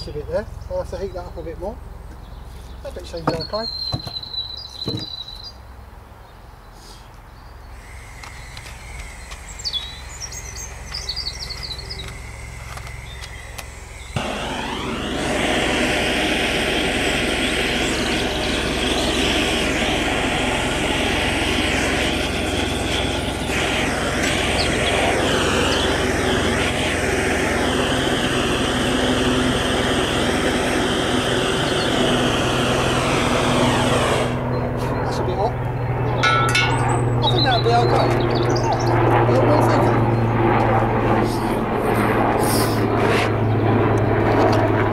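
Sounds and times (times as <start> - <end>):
blowtorch roaring: 7.7 - 44.9.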